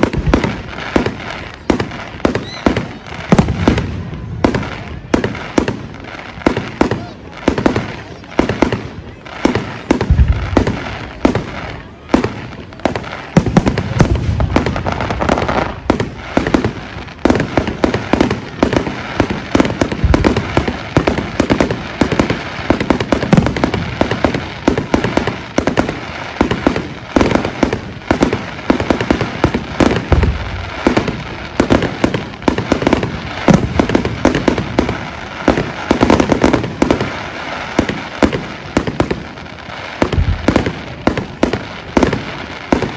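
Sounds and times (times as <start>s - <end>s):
deep fireworks booms: 0.0s - 42.9s
fireworks bangs and crackling: 0.0s - 42.9s.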